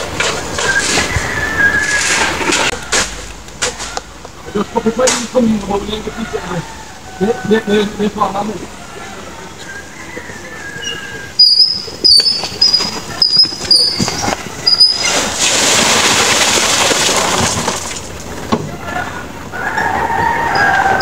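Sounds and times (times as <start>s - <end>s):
metal wheelbarrow clanking and squeaking: 0.0s - 6.6s, 8.9s - 21.0s.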